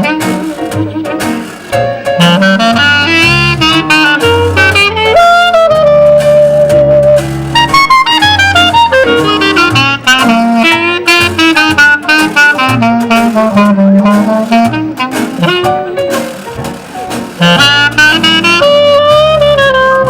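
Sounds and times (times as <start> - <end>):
washboard clicking: 0.0 - 19.7
horn playing fast notes: 0.0 - 20.0
walking bass line: 0.0 - 20.0.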